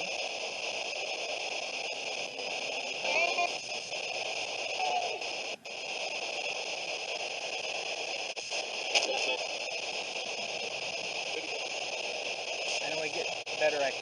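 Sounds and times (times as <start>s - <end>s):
radio static hiss: 0.0s - 14.0s
snatches of broadcast voice: 0.0s - 14.0s.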